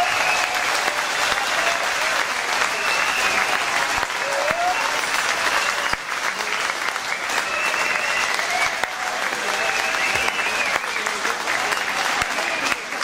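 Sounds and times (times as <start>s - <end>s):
audience clapping and cheering: 0.0s - 13.0s.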